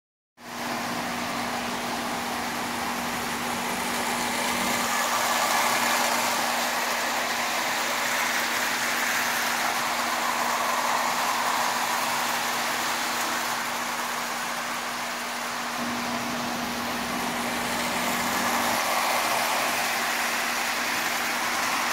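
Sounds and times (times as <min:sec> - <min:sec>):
toy train whirring and rattling: 0:00.7 - 0:21.9.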